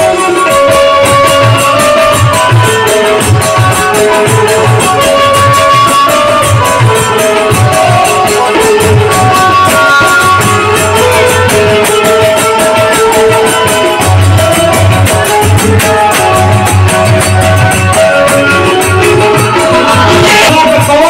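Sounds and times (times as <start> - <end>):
harmonium and keyboard melody: 0.0 - 21.0
tabla and dholak beat: 0.0 - 21.0.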